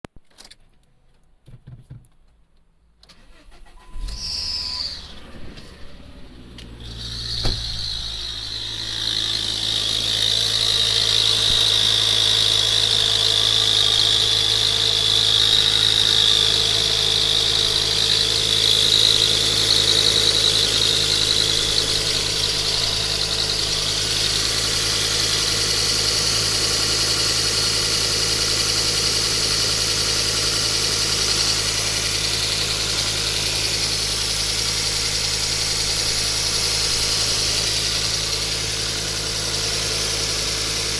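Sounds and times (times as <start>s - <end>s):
car engine idling: 3.2s - 40.9s
high whistling whine: 3.9s - 38.8s.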